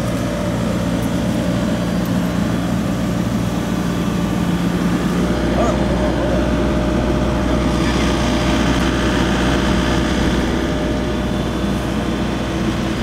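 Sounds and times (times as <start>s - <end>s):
machine engine humming: 0.0s - 13.0s.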